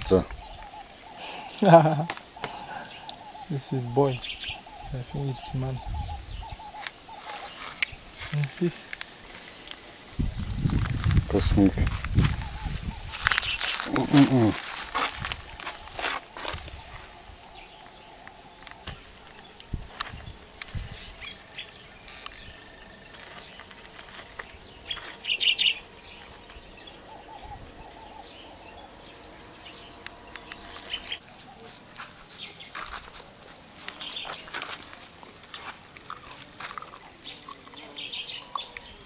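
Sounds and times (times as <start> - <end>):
birds chirping: 0.0 - 39.0
insects: 0.0 - 39.0.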